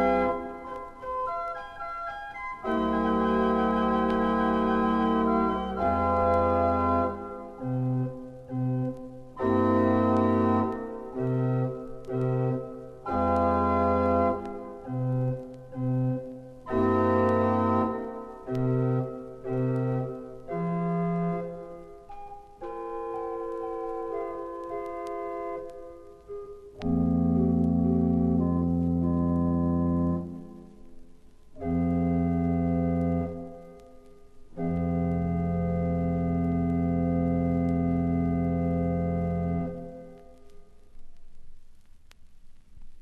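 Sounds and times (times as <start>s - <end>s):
pipe organ playing chords: 0.0s - 30.8s, 31.6s - 33.8s, 34.6s - 40.4s.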